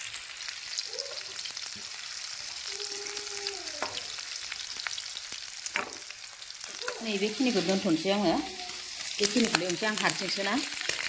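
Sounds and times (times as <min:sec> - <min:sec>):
food sizzling in hot oil: 0:00.0 - 0:11.0
oil popping and crackling: 0:00.0 - 0:11.0.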